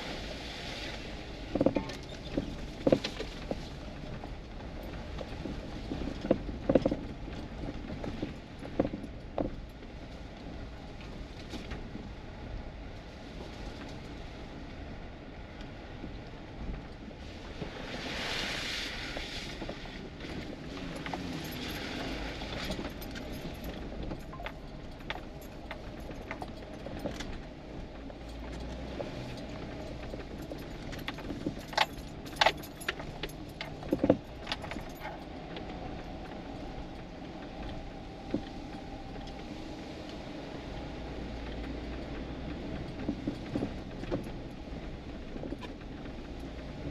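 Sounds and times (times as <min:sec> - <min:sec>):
engine and tyres rumbling: 0:00.0 - 0:46.9
loose items rattling in cab: 0:01.3 - 0:12.2, 0:19.4 - 0:46.9.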